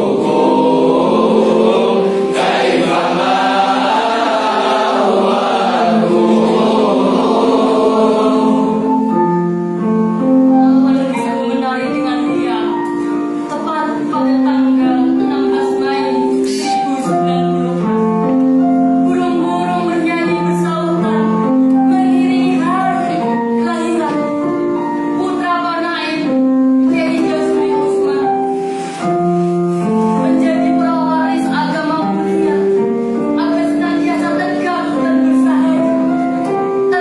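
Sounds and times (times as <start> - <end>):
keyboard accompaniment: 0.0 - 37.0.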